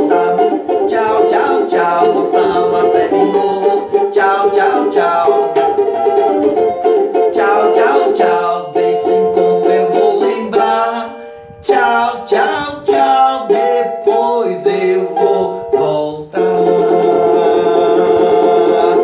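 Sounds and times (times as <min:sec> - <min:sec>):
children's song: 0:00.0 - 0:19.0
ukulele strumming: 0:00.0 - 0:19.0.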